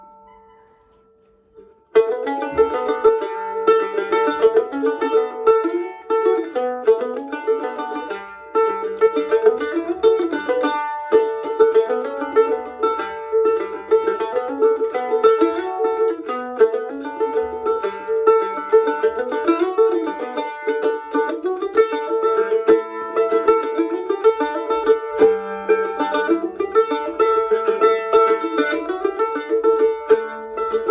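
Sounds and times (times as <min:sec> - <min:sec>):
plucked string instrumental music: 0:00.0 - 0:30.9.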